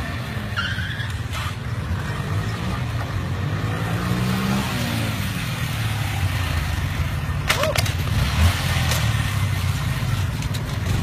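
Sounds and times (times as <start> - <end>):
motorbike engines revving: 0.0 - 11.0.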